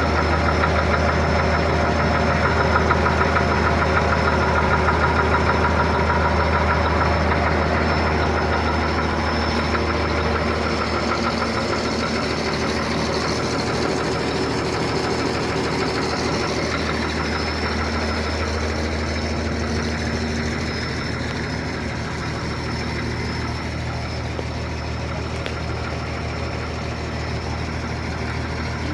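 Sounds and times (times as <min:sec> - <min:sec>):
forklift engine idling: 0:00.0 - 0:28.9.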